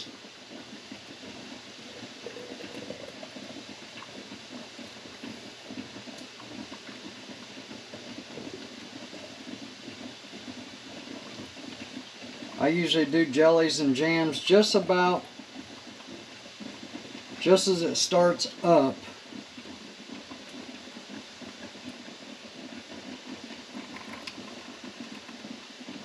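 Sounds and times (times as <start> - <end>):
water bubbling at a boil: 0.0 - 26.0.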